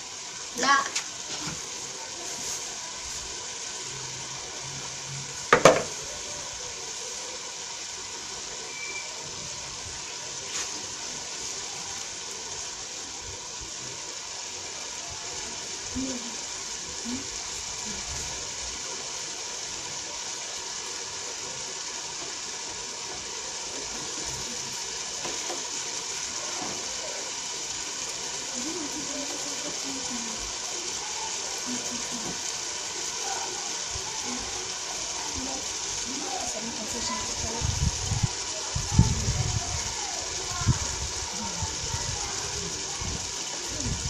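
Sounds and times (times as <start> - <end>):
pot boiling and steaming: 0.0 - 44.0.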